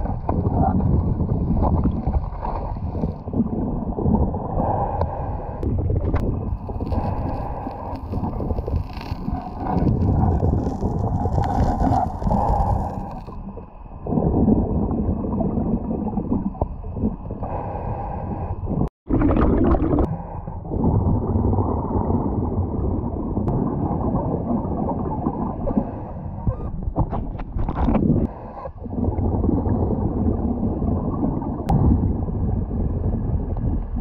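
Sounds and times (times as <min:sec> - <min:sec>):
underwater air bubbles gurgling: 0:00.0 - 0:34.0.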